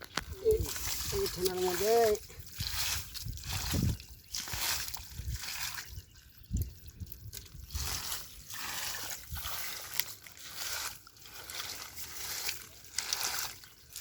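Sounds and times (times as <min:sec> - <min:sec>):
shallow water sloshing and splashing: 0:00.0 - 0:14.0.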